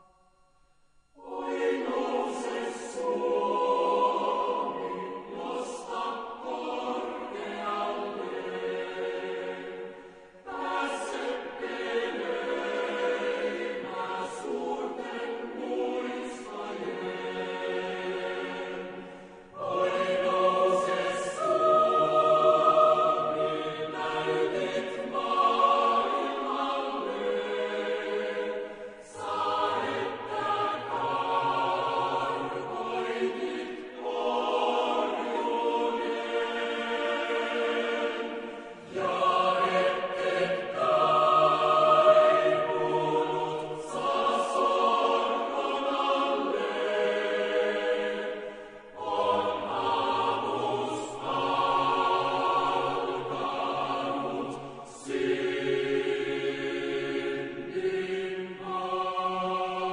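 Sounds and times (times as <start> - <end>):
choir singing held chords: 0.0 - 59.9.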